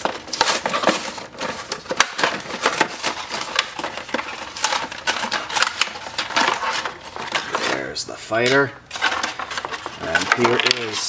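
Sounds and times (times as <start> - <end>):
cardboard tearing: 0.0 - 11.0
plastic blister packaging crackling: 0.0 - 11.0.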